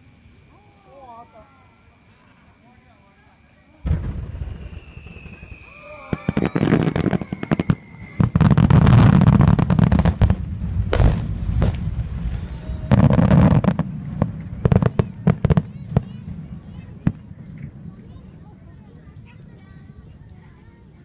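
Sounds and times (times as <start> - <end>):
firework whistle: 3.2 - 20.6
fireworks crackling: 3.8 - 21.0.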